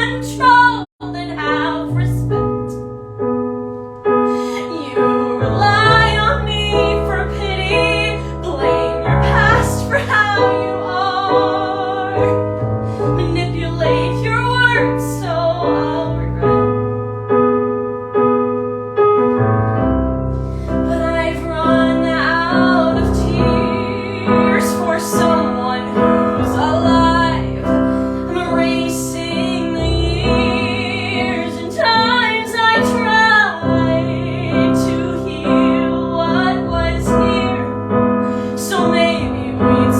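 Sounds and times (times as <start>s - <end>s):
woman singing with vibrato: 0.0s - 2.8s, 4.3s - 16.7s, 20.7s - 39.9s
piano accompaniment: 0.0s - 39.9s.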